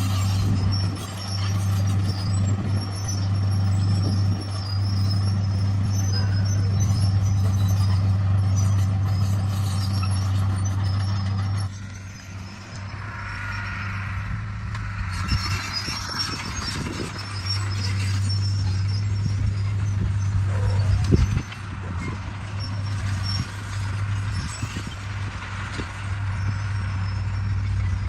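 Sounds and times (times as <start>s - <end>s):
bulldozer diesel engine drone: 0.0s - 28.0s
high engine whine: 0.0s - 28.0s.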